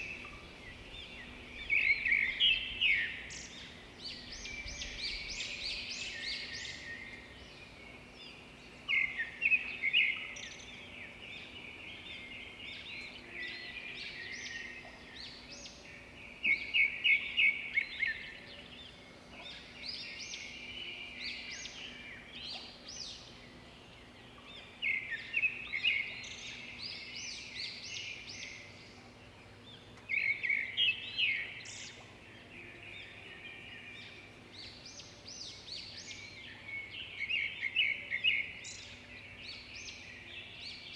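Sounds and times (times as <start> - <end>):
faint birds chirping: 0.0 - 40.9.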